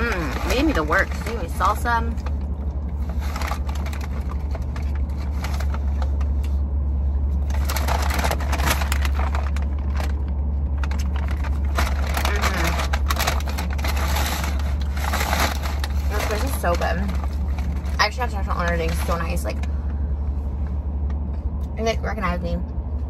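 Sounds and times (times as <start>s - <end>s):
paper bag crinkling: 0.0s - 6.7s, 7.3s - 19.8s
car cabin hum: 0.0s - 23.0s.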